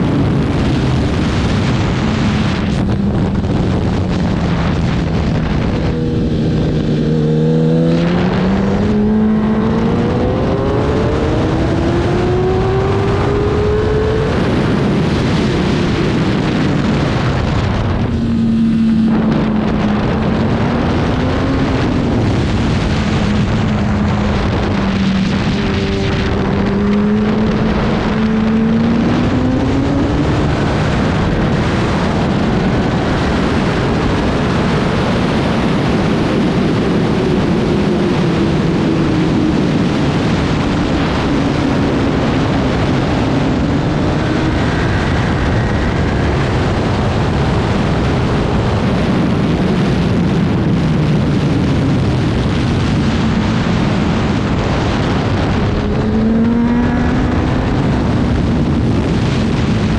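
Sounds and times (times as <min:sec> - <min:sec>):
racing motorcycle engine: 0:00.0 - 0:59.9
wind rush on microphone: 0:00.0 - 0:59.9.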